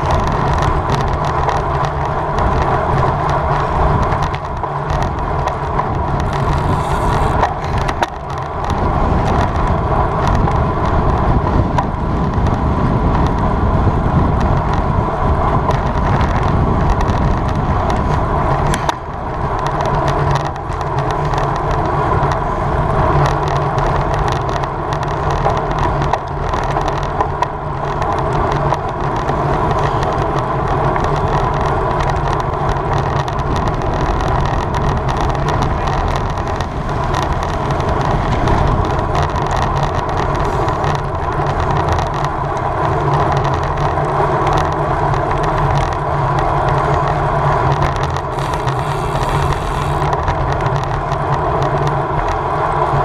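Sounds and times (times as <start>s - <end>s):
tyres rolling on pavement: 0.0s - 53.0s
wind rush over microphone: 0.0s - 53.0s.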